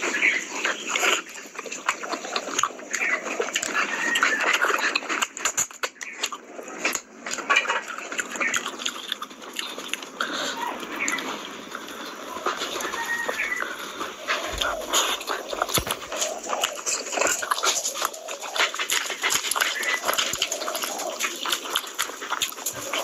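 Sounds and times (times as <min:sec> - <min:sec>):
wet chewing and lip-smacking: 0:00.0 - 0:23.0.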